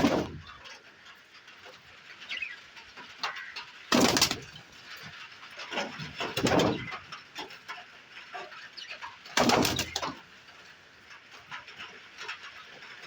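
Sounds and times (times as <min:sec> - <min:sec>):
pigeons shuffling and rustling: 0:00.0 - 0:13.0.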